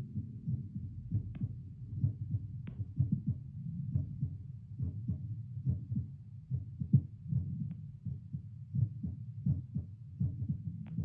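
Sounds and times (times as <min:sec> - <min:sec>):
heartbeat thumps: 0:00.0 - 0:11.0.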